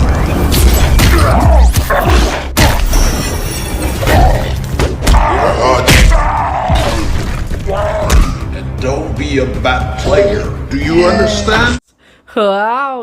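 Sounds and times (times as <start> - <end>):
background music: 0.0 - 11.9.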